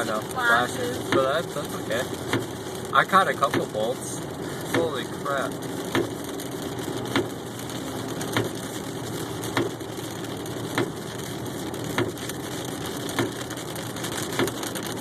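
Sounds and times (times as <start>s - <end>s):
rain on a car: 0.0s - 15.0s
windshield wipers sweeping: 0.0s - 15.0s.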